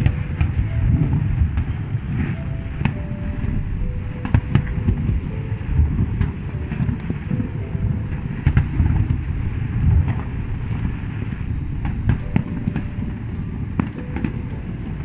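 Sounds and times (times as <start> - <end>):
fireworks rumbling: 0.0 - 15.0
fireworks sharp cracks: 0.0 - 15.0.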